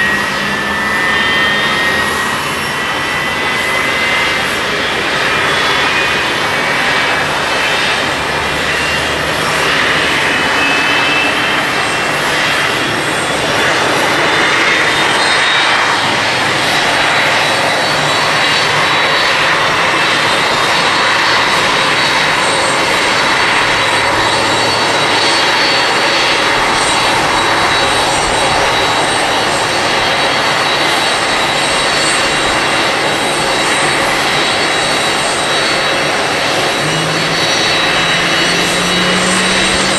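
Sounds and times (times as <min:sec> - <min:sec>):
high-pitched engine whine: 0:00.0 - 0:39.9
jet engines roaring: 0:00.0 - 0:39.9.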